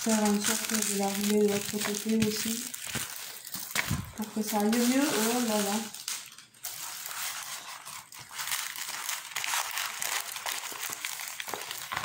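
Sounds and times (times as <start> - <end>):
plastic film rustling and crinkling: 0.0 - 12.0.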